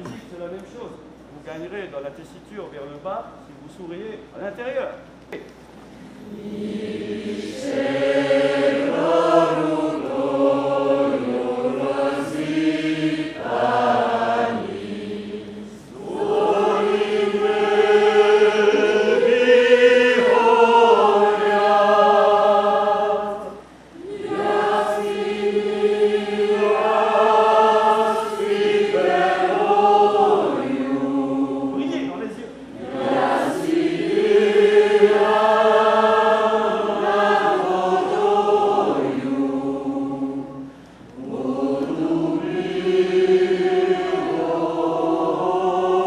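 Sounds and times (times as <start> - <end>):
group singing a cappella chant: 6.0 - 46.0.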